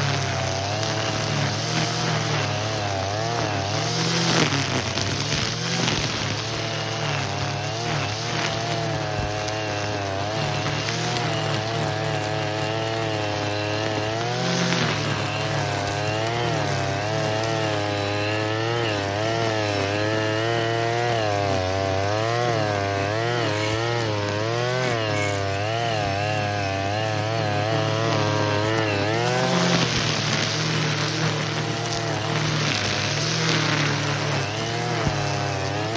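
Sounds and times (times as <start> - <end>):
brush cutter engine running: 0.0 - 35.9.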